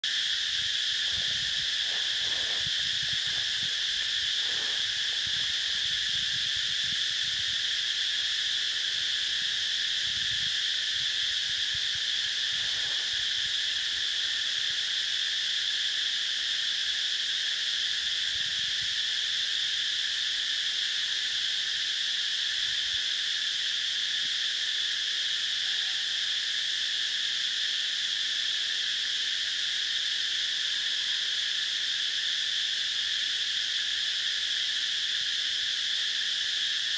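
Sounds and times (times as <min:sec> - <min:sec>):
insect chorus droning: 0:00.0 - 0:36.9.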